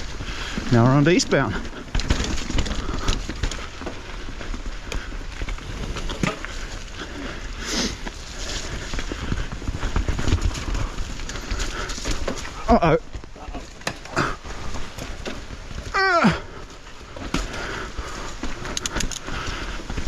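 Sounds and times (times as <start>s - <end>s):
bike rattling over roots and rocks: 0.0s - 20.0s
tyre noise on dirt: 0.0s - 20.0s.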